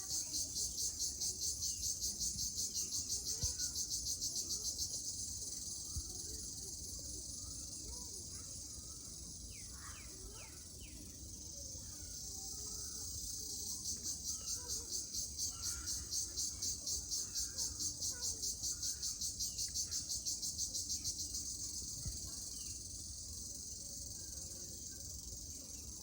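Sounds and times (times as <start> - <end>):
insects shrilling in a pulsing trill: 0.0 - 26.0.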